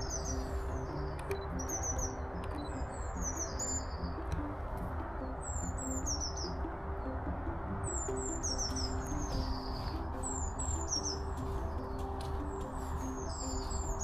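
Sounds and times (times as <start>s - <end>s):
songbirds singing: 0.0s - 14.0s.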